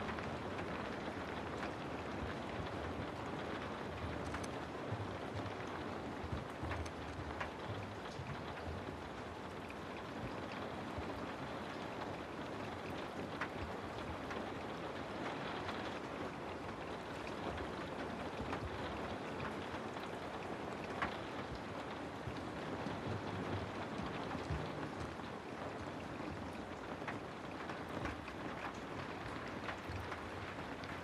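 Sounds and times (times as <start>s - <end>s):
raindrop ticks: 0.0s - 31.0s.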